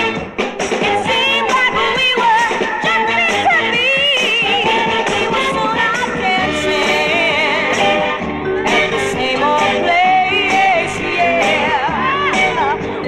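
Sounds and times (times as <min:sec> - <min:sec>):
drum and cymbal beat: 0:00.0 - 0:12.8
full band playing: 0:00.0 - 0:13.0
woman singing with vibrato: 0:00.8 - 0:13.0.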